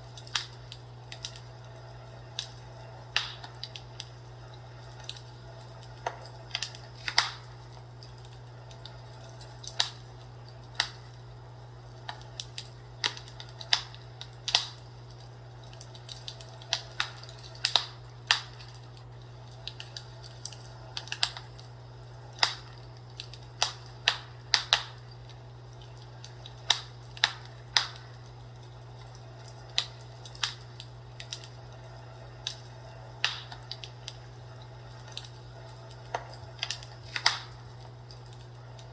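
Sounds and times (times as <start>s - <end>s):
steady low hum: 0.0s - 38.9s
wood fire crackling: 0.0s - 38.9s.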